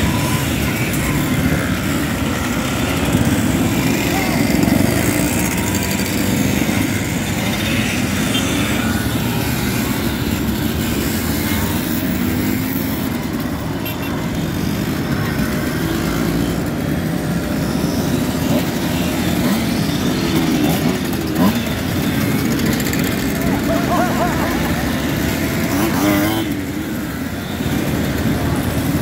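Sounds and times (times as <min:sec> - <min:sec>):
mopeds and motorcycles riding past: 0:00.0 - 0:29.0.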